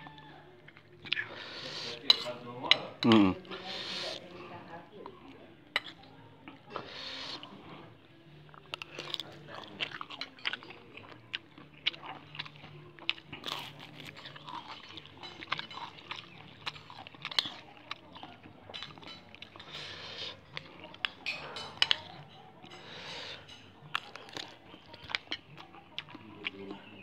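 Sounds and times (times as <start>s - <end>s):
crunchy chewing: 0.0s - 4.3s, 8.5s - 27.0s.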